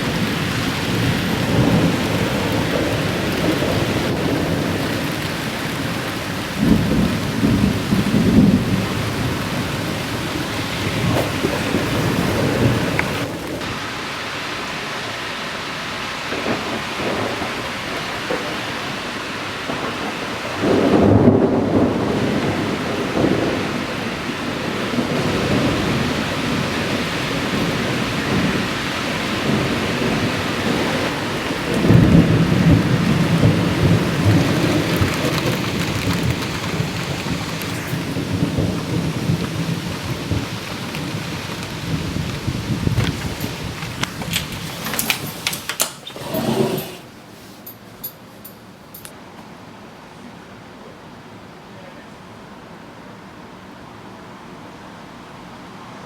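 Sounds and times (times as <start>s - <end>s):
thunder rumbling: 0.0s - 47.2s
steady rain: 0.0s - 56.0s.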